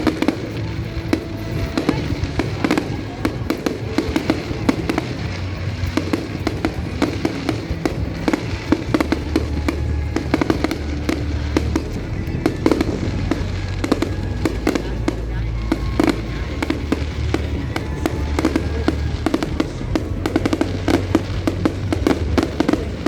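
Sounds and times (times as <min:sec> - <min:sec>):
fireworks bangs and crackles: 0:00.0 - 0:23.0
music with low bass notes: 0:00.0 - 0:23.0.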